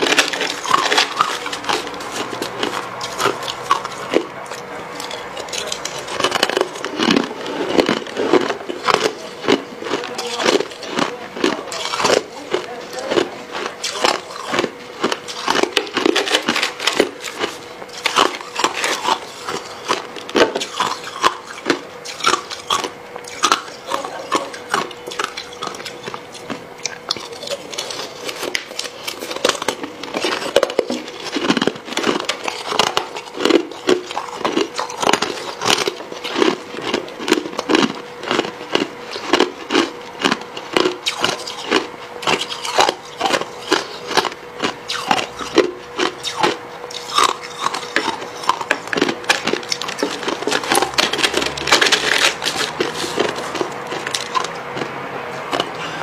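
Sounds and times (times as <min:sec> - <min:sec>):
crunching and chewing ice: 0:00.0 - 0:56.0.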